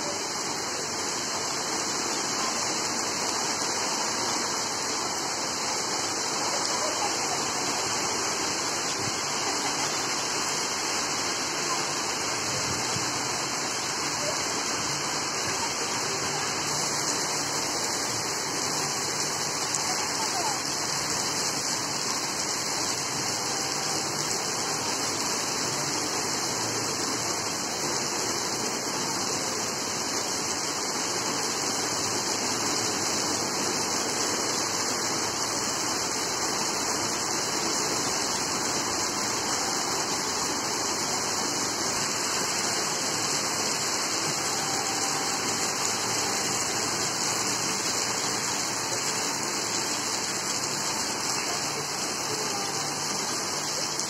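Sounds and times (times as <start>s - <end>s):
heavy rain on wet paving: 0.0s - 54.0s.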